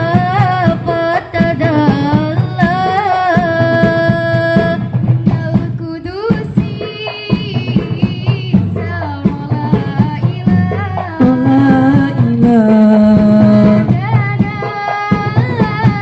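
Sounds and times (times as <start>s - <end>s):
hand drum percussion: 0.0s - 16.0s
woman singing devotional song: 0.0s - 16.0s.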